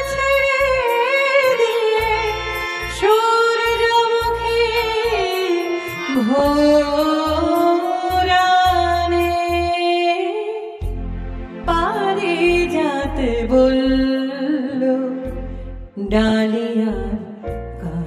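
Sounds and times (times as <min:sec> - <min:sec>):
woman singing with vibrato: 0:00.0 - 0:10.8, 0:11.7 - 0:15.3, 0:16.0 - 0:18.0.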